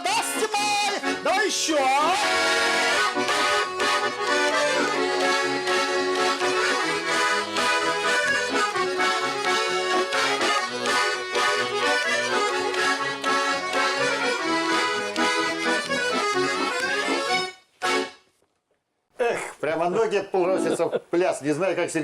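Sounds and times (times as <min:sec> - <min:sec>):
accordion playing folk dance tune: 0:00.0 - 0:18.4, 0:20.0 - 0:21.0.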